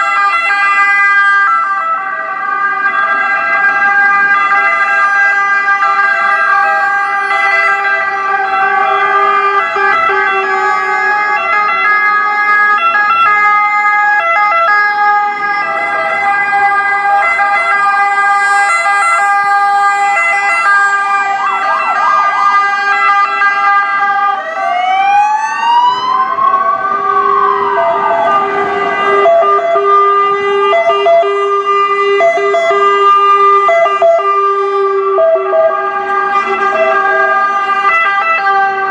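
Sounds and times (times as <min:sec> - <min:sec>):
two-tone sirens: 0:00.0 - 0:38.9
wailing siren: 0:00.0 - 0:38.9.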